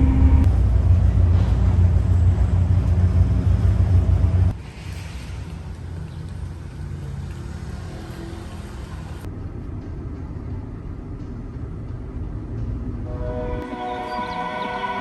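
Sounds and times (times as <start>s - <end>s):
engine rumbling steadily: 0.0s - 13.0s.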